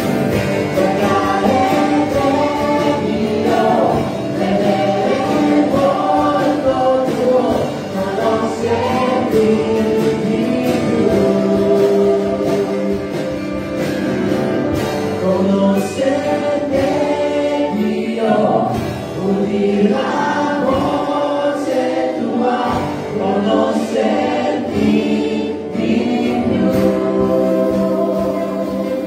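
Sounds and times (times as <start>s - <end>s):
male and female voices singing: 0.0s - 13.6s, 14.8s - 29.0s
acoustic guitar: 0.0s - 29.0s
drums: 0.0s - 29.0s
keyboard: 0.0s - 29.0s.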